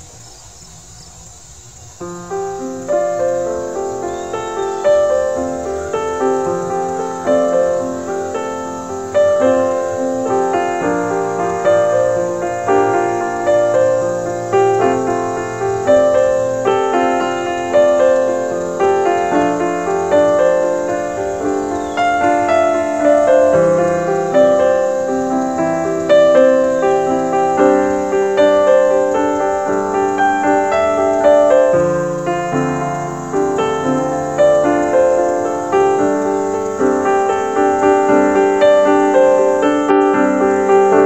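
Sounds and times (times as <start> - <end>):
piano music: 2.0 - 41.0.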